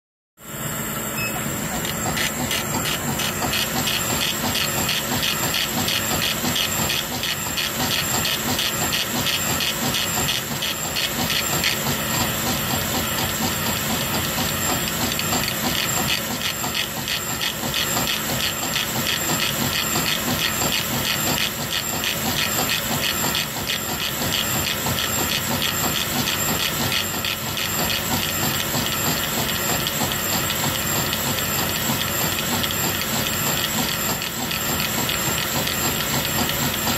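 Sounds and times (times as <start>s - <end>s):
steady whining tones: 0.5s - 36.9s
engraver head pulsing: 1.2s - 36.9s.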